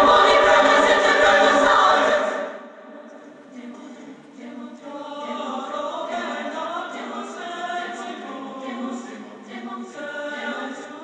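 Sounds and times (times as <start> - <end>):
choir-like singing voices: 0.0 - 11.0.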